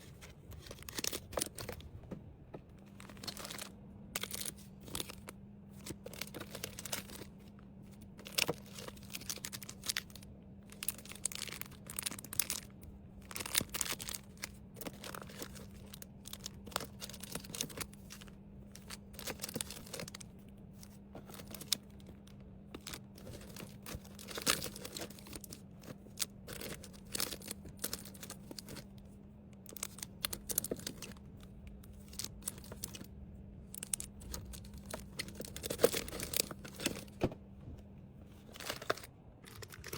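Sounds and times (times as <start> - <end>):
plastic packaging rustling: 0.0 - 2.0, 2.8 - 37.4, 38.3 - 39.9
faint steady hum: 0.0 - 39.9.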